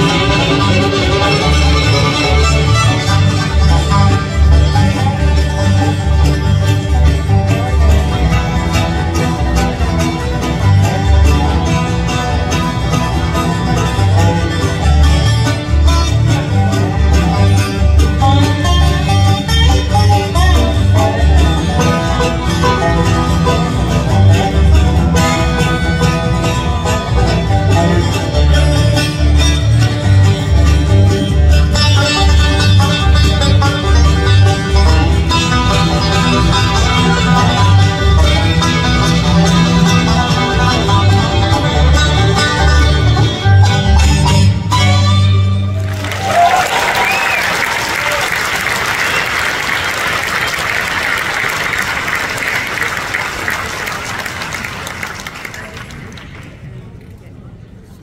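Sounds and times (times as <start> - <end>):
banjo: 0.0 - 56.1
bluegrass band playing: 0.0 - 57.0.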